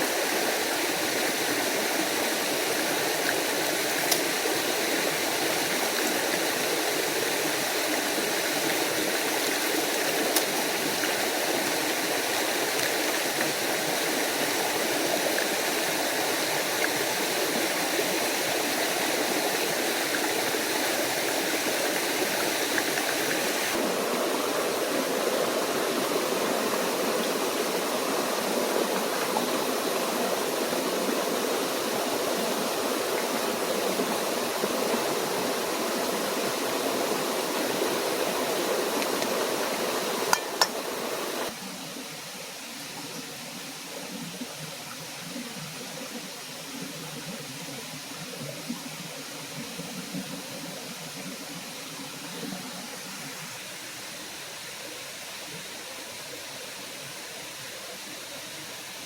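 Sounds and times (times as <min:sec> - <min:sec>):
waterfall and stream splashing: 0:00.0 - 0:59.0.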